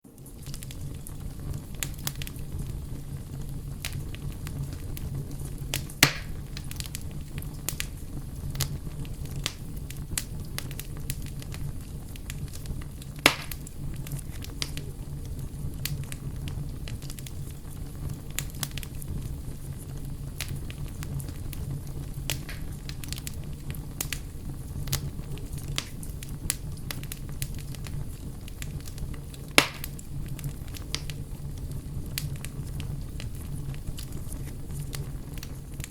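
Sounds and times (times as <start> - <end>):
campfire crackling: 0.0 - 35.9
loud fire pops: 0.1 - 35.9.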